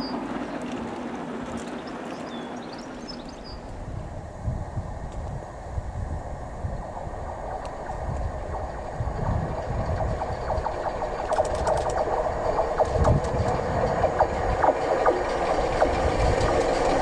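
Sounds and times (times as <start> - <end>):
sharp clicks of train: 0.0 - 3.9, 6.7 - 17.0
steam locomotive approaching: 0.0 - 17.0.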